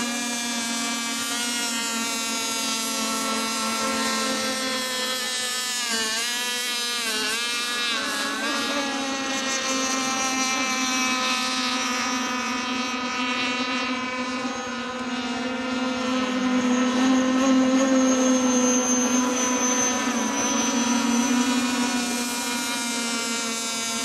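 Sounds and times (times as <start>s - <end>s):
model speedboat engines whining: 0.0s - 24.0s.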